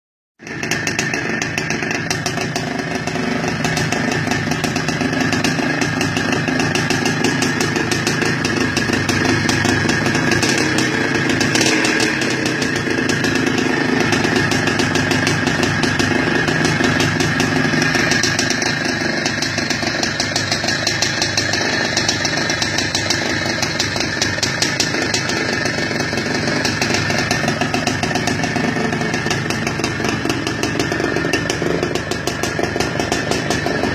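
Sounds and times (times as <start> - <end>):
motorcycle engine running: 0.4 - 33.9.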